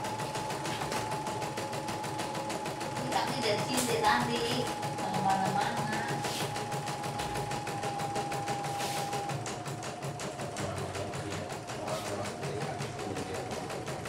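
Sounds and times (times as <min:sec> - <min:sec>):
embroidery machine stitching: 0:00.0 - 0:14.0
steady machine whine: 0:00.0 - 0:14.0.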